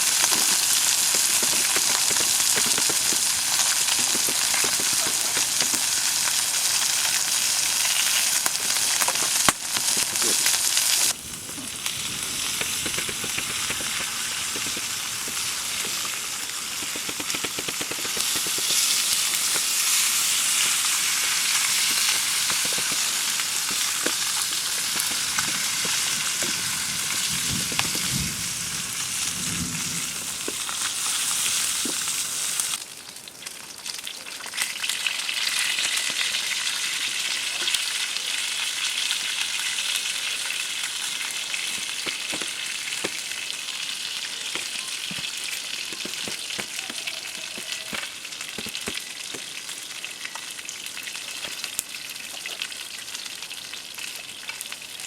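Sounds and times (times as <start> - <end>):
food sizzling in a pan: 0.0 - 55.0.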